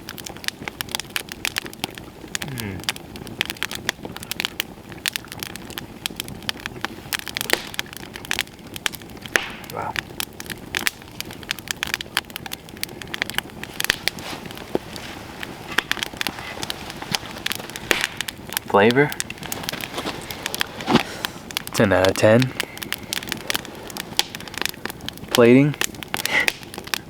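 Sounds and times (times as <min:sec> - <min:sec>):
campfire crackling: 0:00.0 - 0:27.0
fire snapping: 0:00.0 - 0:27.0.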